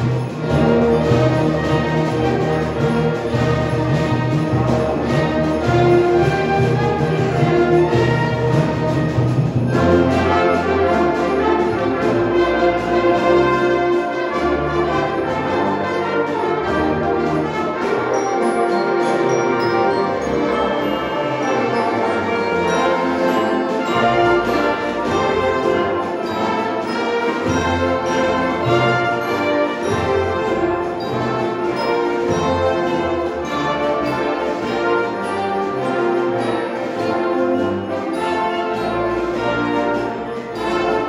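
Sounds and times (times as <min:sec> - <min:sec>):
brass instruments: 0:00.0 - 0:41.0
woodwinds playing: 0:00.0 - 0:41.0.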